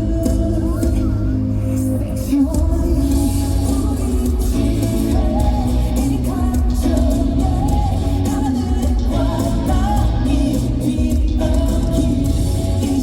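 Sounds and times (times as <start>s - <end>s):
heavy bass beat: 0.0s - 1.5s, 2.5s - 13.0s
man singing: 0.0s - 13.0s
pop dance track over loudspeakers: 0.0s - 13.0s.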